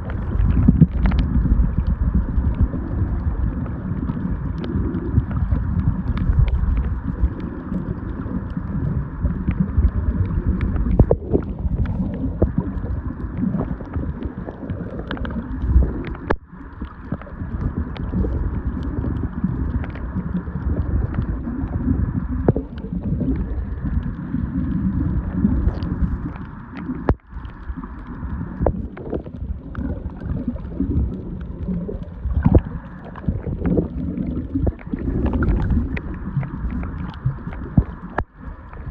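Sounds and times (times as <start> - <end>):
muffled underwater water rush: 0.0 - 38.9
sharp clicks and crackles: 0.0 - 38.9.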